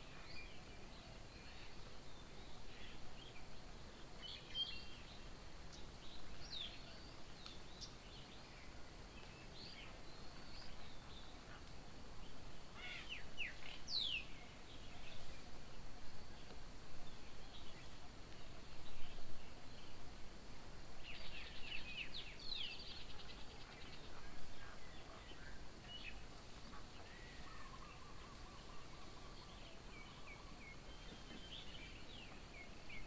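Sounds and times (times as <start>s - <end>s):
outdoor background hiss: 0.0s - 33.0s.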